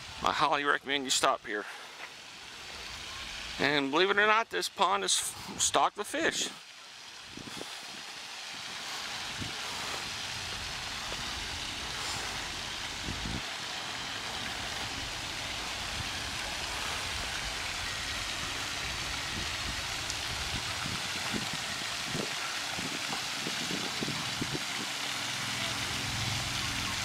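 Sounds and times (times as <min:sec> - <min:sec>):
fountain water splashing: 0:00.0 - 0:27.0.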